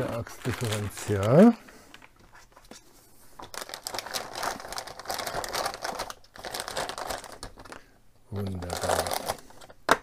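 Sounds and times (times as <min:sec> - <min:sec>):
plastic bag crinkling: 0:00.0 - 0:01.6, 0:03.4 - 0:09.8.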